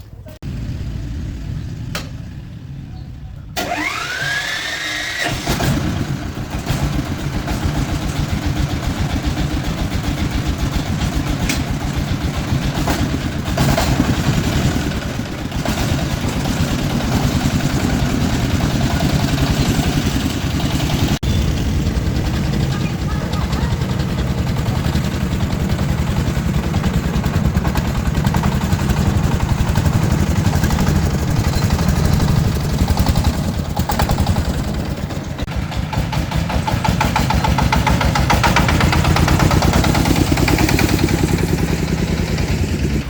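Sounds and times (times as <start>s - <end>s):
truck engine starting and running: 0.0s - 43.0s.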